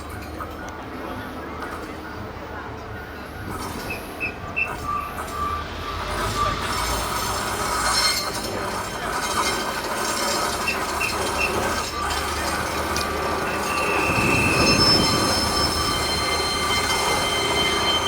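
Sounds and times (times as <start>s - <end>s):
locomotive wheels rumbling on rail: 0.0s - 18.0s
metallic squeal: 3.4s - 18.0s.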